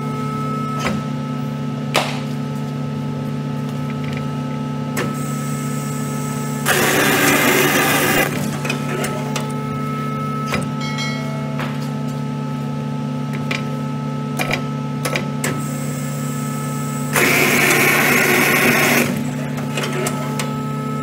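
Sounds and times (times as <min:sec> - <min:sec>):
machine motor hum: 0:00.0 - 0:21.0.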